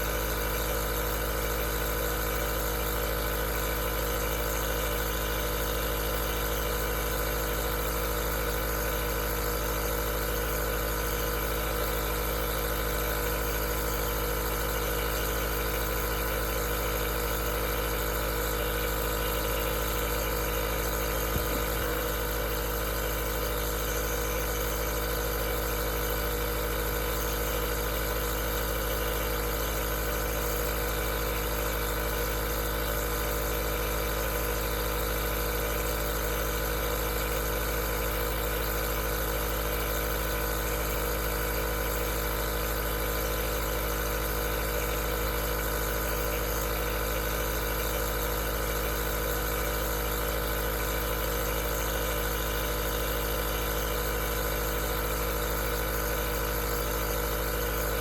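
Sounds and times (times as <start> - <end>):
nebulizer humming: 0.0 - 37.4, 38.0 - 58.0.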